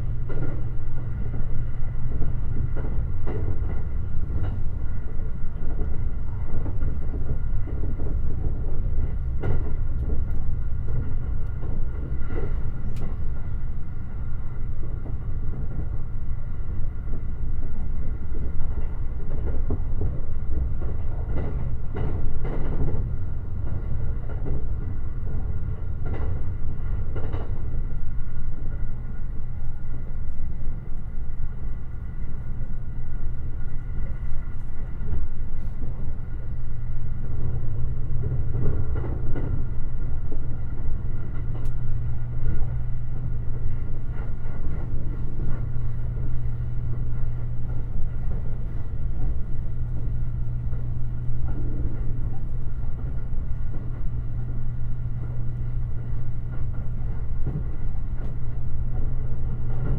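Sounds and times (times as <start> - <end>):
constant low hum: 0.0 - 59.9
train wheels rumbling on rail: 0.0 - 59.9.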